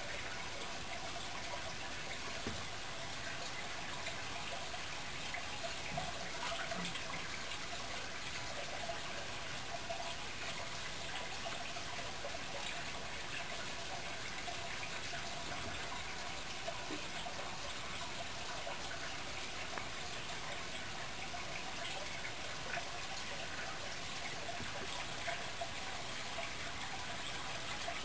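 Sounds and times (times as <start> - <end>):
aquarium water trickling and bubbling: 0.0 - 28.0.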